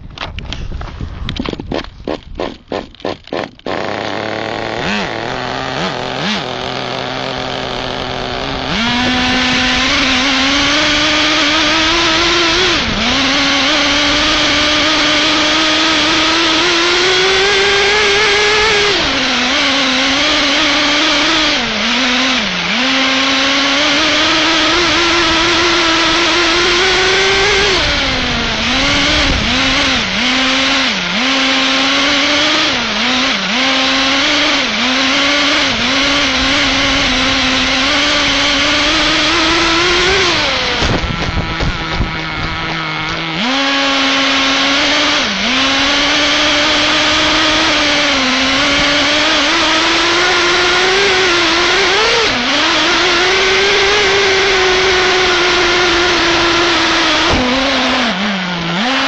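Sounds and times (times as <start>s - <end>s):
small two-stroke engine revving: 0.0s - 59.0s.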